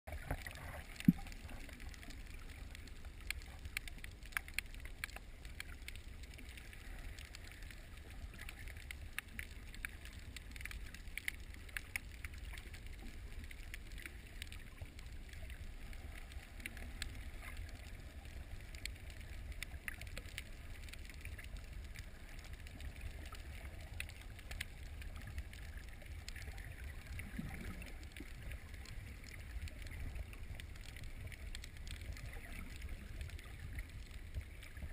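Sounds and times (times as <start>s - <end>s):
small clicks and crackles: 0.1s - 34.9s
underwater surging water rumble: 0.1s - 34.9s.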